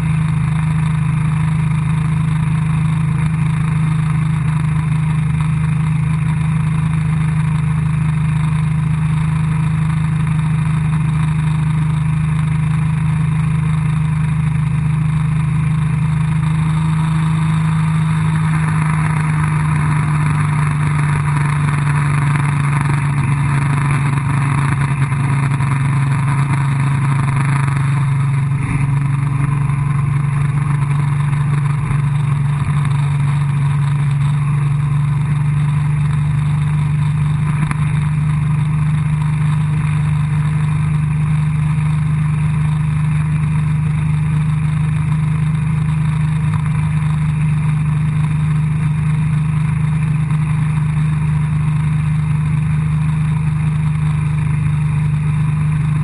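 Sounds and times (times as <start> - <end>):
motorboat engine drone: 0.0 - 56.0.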